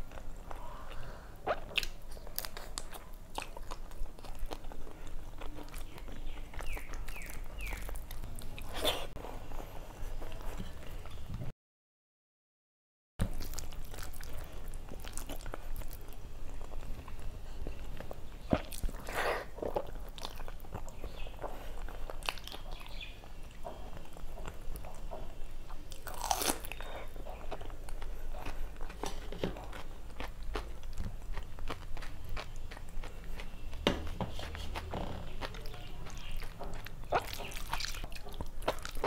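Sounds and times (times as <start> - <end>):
person chewing and crunching food: 0.0 - 9.2, 13.2 - 39.0.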